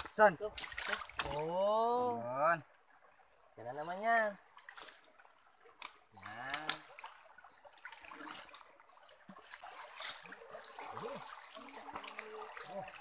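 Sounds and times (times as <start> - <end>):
rocky stream trickling: 0.0 - 13.0
splashes of people wading: 0.0 - 13.0.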